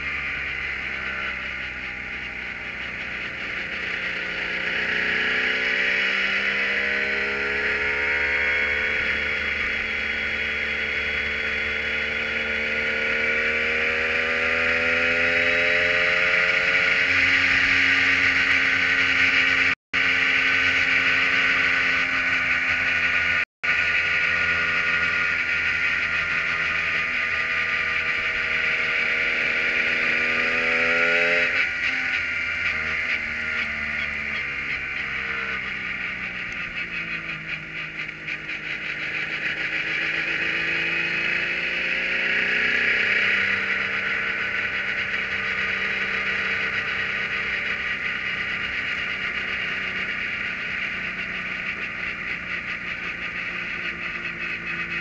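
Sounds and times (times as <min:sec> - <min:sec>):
race car engine running: 0:00.0 - 0:55.0.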